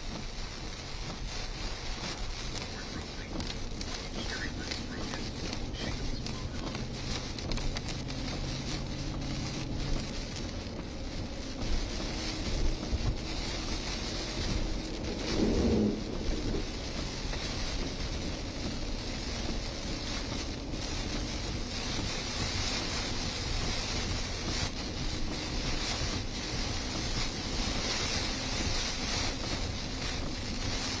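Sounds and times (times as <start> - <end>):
heavy rain hissing: 0.0 - 31.0
wind buffeting microphone: 0.0 - 31.0.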